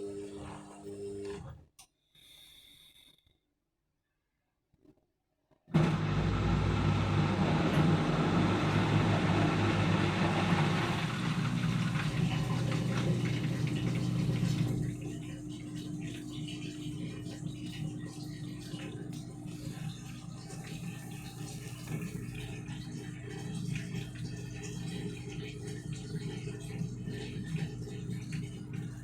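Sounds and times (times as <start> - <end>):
washing machine running: 0.0 - 1.6, 5.7 - 29.0.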